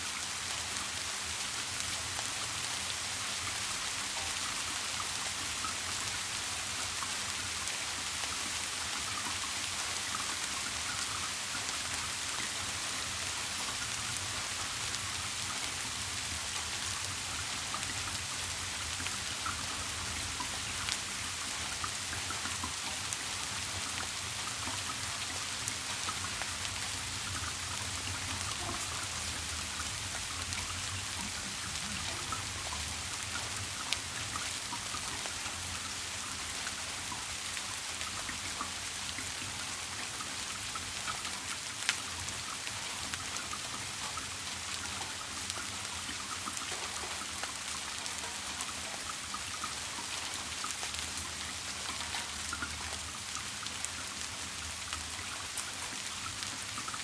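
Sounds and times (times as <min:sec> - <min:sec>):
steady rain falling: 0:00.0 - 0:57.0
water drips: 0:00.1 - 0:57.0.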